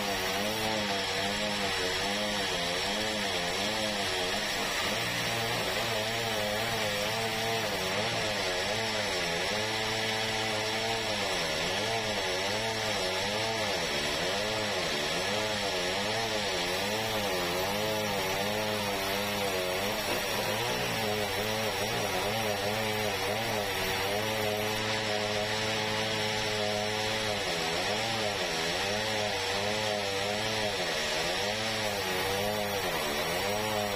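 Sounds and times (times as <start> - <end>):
sawmill machine hum: 0.0 - 33.9.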